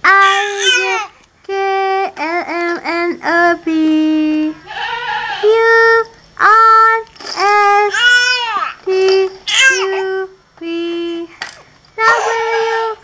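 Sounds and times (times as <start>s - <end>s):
child singing: 0.0s - 4.5s, 5.5s - 11.3s, 12.0s - 13.0s.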